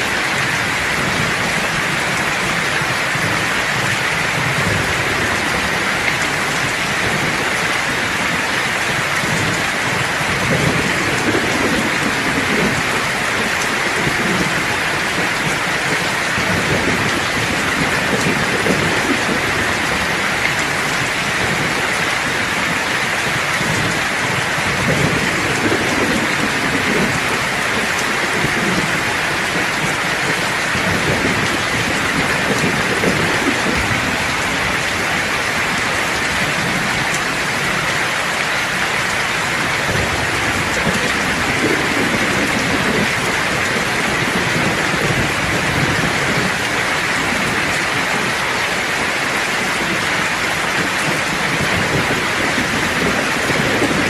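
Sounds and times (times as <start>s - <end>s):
heavy rain hissing: 0.0s - 54.0s
thunder rumbling: 0.0s - 54.0s.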